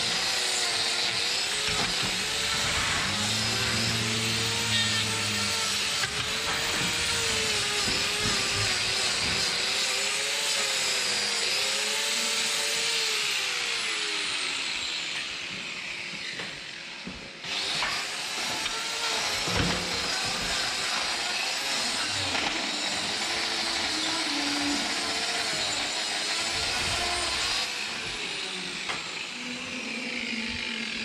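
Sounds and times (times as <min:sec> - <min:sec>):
angle grinder cutting hoof: 0:00.0 - 0:31.0.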